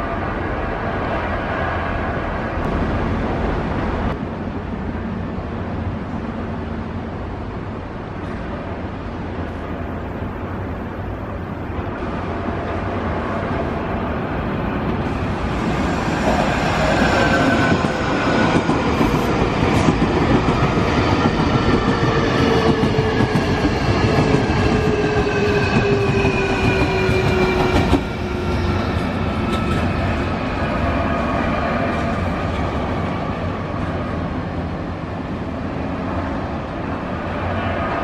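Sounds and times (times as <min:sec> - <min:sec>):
train approaching: 0:00.0 - 0:38.0
wheels rumbling on rail: 0:00.0 - 0:38.0.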